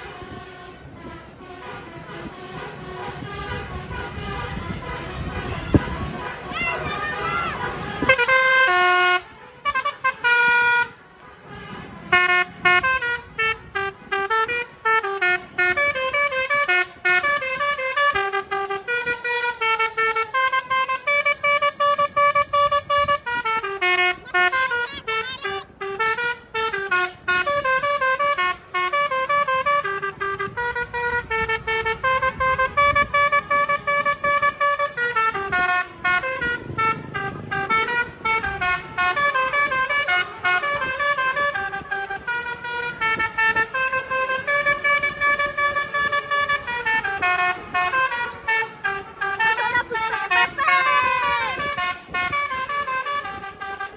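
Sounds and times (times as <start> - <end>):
bus horn playing a melody: 0.0 - 53.9.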